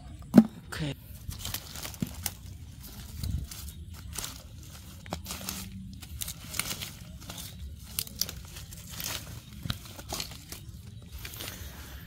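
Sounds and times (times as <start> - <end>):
dry plant debris crackling: 0.3 - 12.0.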